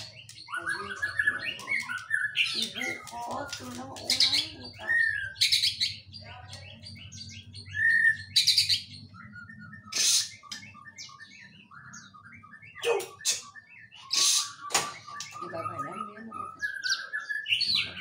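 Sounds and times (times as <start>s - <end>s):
bird singing whistled notes: 0.0s - 18.0s
harsh bird calls: 0.0s - 18.0s.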